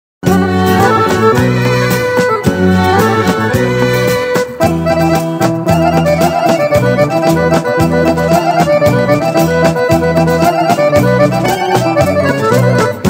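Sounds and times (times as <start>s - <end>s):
accordion folk melody: 0.2s - 13.0s
bass and steady beat: 0.2s - 13.0s.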